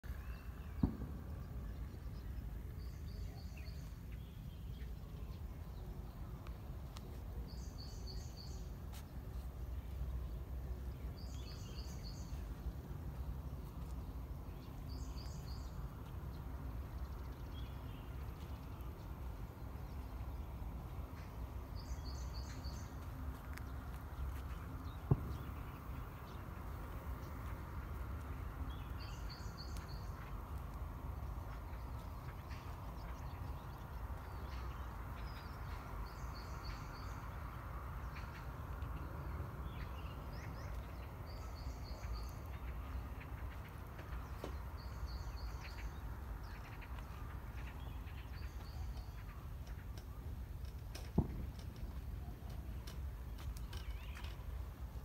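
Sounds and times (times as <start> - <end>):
steady low rumble: 0.1 - 55.0.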